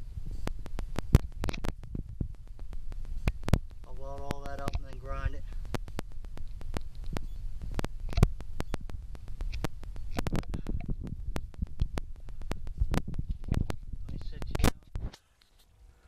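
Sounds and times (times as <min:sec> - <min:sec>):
microphone handling rumble: 0:00.0 - 0:15.2.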